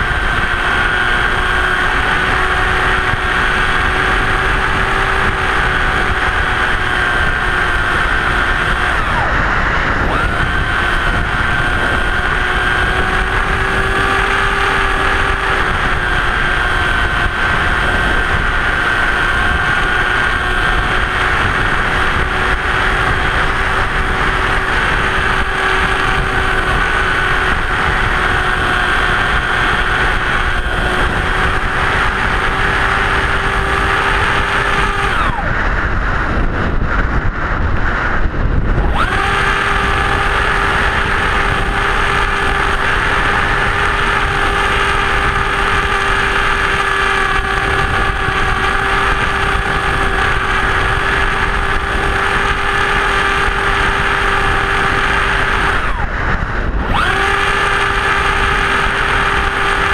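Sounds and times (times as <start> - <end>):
electric motor and propeller whining: 0.0 - 59.9
wind noise: 0.0 - 59.9.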